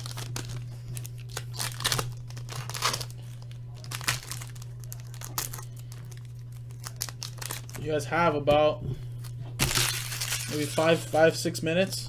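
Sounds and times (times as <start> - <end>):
card pack wrappers tearing and crinkling: 0.0 - 7.9, 9.2 - 11.2.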